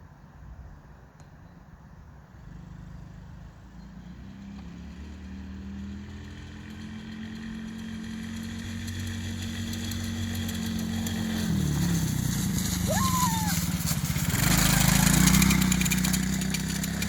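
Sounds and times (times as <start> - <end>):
small atv engine running: 2.4 - 17.0.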